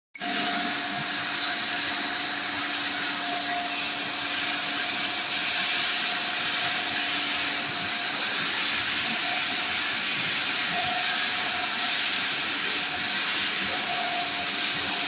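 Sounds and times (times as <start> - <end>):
machinery hissing and whining: 0.2 - 15.0.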